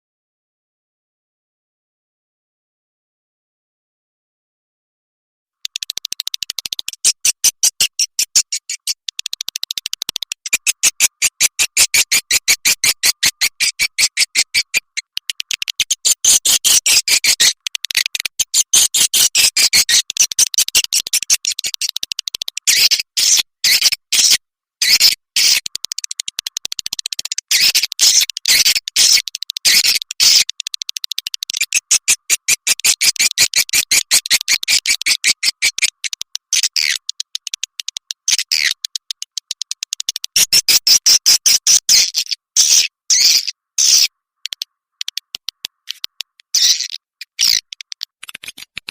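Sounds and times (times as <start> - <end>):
swiftlets chirping rapidly: 5.6 - 48.8.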